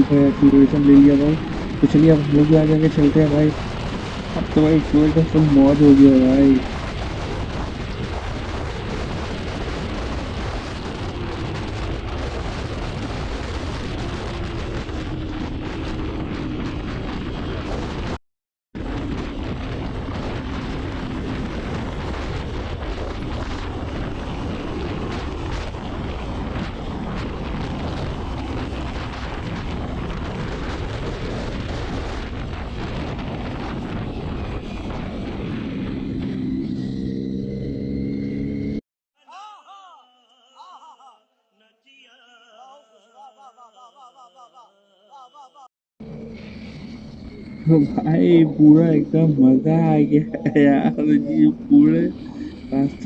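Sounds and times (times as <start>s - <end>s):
wind noise on microphone: 0.0s - 18.2s, 18.8s - 37.3s, 46.0s - 53.0s.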